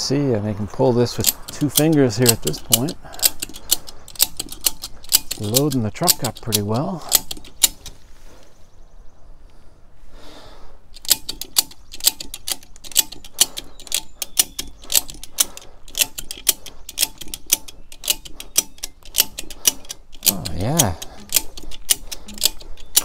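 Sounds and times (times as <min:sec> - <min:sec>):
ratchet pawl clicking: 0:01.1 - 0:08.0, 0:11.0 - 0:23.0.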